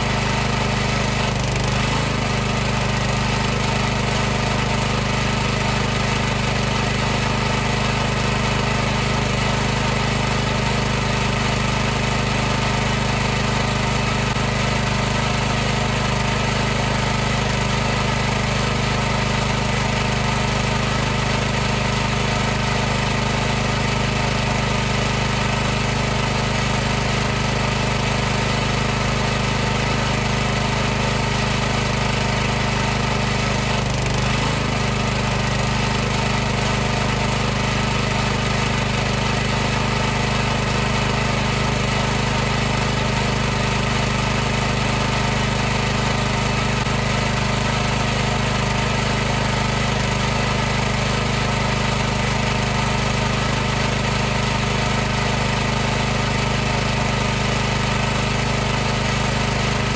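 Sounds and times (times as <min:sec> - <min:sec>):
pressure washer motor hum: 0:00.0 - 0:59.9.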